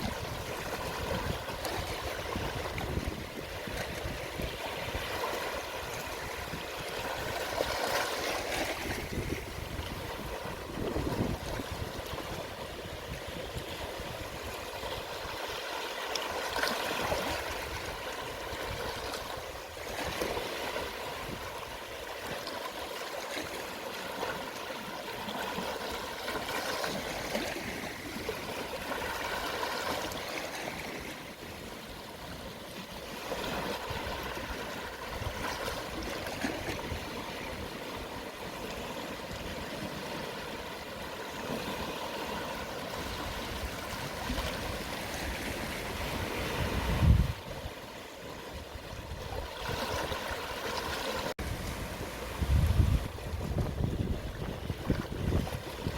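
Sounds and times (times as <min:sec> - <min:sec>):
sea waves washing onto shore: 0:00.0 - 0:55.9.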